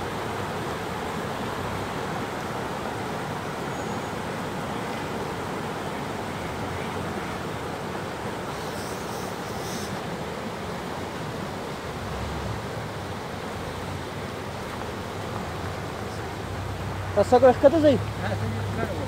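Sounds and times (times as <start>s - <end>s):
rocky stream rushing: 0.0s - 19.0s.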